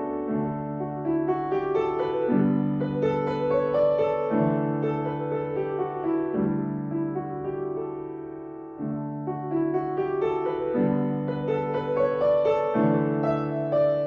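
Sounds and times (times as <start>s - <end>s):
solo piano piece: 0.0s - 14.0s.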